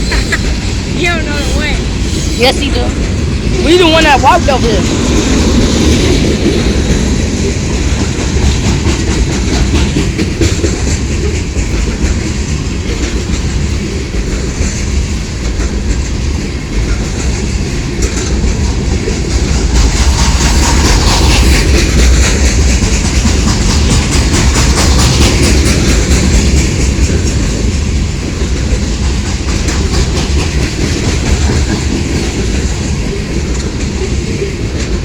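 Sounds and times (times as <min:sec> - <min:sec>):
train low rumble: 0:00.0 - 0:35.0
train wheels clacking: 0:00.0 - 0:35.0.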